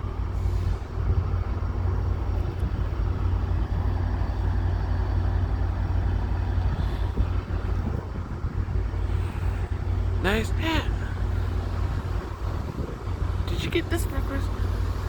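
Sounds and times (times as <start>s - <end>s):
diesel locomotive idling rumble: 0.0s - 15.0s.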